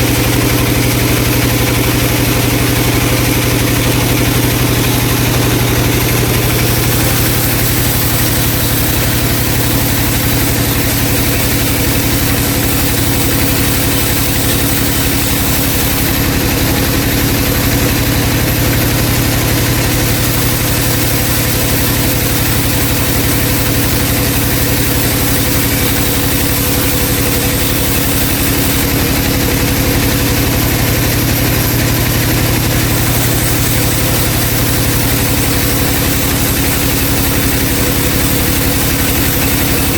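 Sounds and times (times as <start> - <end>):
band saw humming: 0.0 - 39.9.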